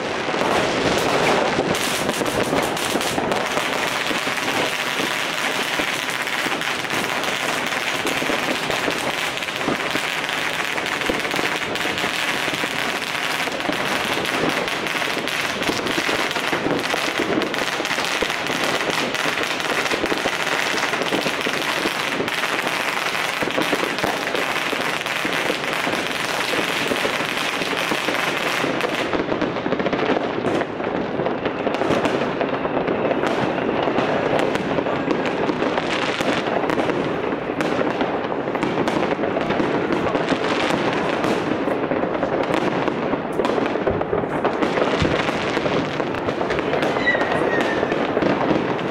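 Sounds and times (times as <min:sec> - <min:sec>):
firecrackers and fireworks banging: 0:00.0 - 0:48.9.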